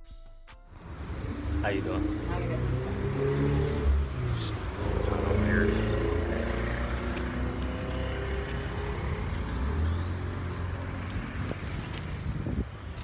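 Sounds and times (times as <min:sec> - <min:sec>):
vehicle engine rumbling: 0:00.8 - 0:13.0.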